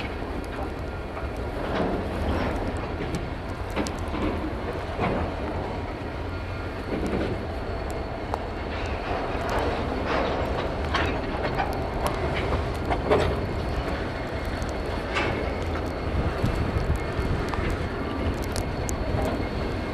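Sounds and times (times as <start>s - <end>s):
diesel train rumbling: 0.0s - 19.9s
train cars clanking and squeaking: 0.0s - 19.9s.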